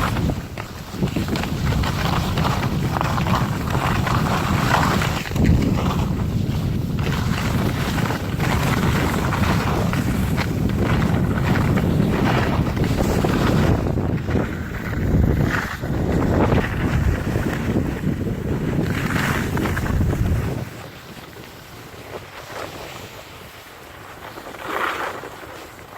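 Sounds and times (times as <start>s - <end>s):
wind buffeting microphone: 0.0s - 24.4s.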